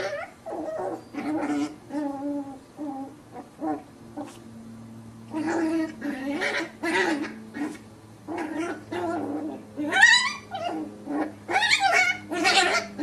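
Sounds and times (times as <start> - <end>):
puppy squealing: 0.0 - 4.3, 5.3 - 13.0
puppies growling and yipping: 0.0 - 4.6, 5.3 - 13.0.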